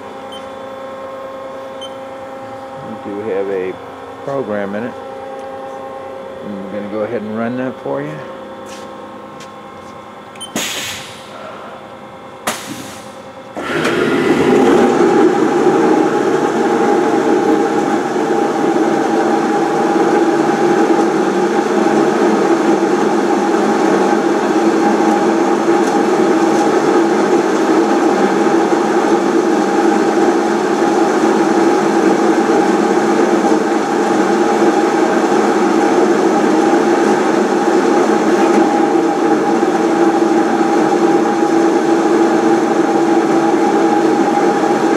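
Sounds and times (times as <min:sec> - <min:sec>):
lathe spindle hum and whine: 0:00.0 - 0:10.5, 0:11.2 - 0:12.5, 0:13.1 - 0:44.9.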